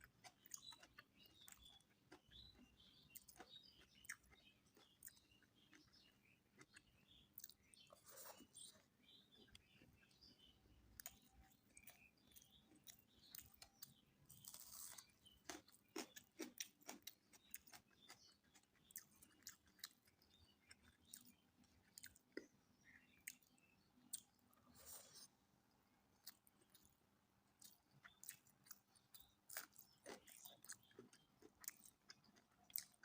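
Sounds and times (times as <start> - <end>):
wet chewing clicks: 0.0 - 8.8, 9.4 - 25.2, 26.2 - 33.0
food crunching: 0.0 - 10.3, 10.9 - 25.2, 26.1 - 33.0.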